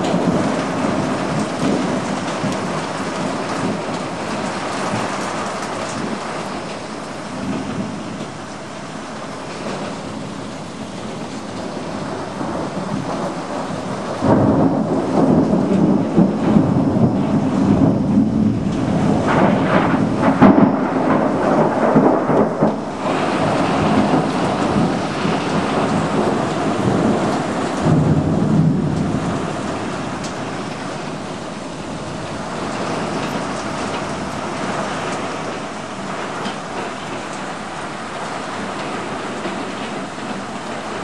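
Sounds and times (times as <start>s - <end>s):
heavy rain: 0.0s - 41.0s
thunder rumbling: 0.0s - 41.0s.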